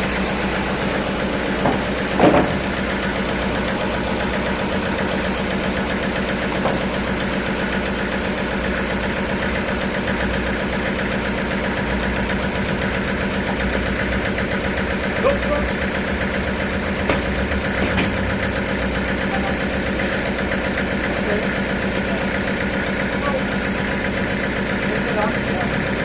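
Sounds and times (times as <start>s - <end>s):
sawmill machinery running: 0.0s - 26.0s.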